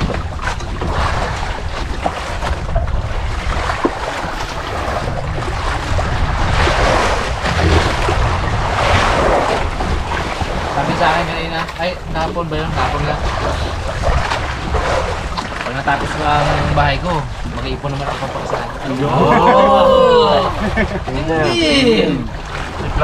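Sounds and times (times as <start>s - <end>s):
wind blowing across microphone: 0.0s - 19.2s
sea surf: 0.0s - 23.0s.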